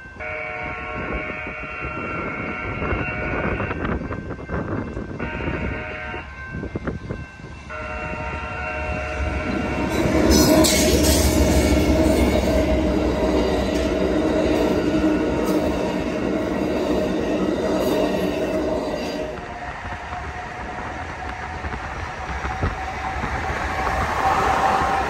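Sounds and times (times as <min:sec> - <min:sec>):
diesel locomotives passing: 0:00.0 - 0:25.0
train cars rumbling over rails: 0:00.0 - 0:25.0
train horn blast: 0:00.2 - 0:04.0, 0:05.2 - 0:06.3, 0:07.7 - 0:25.0.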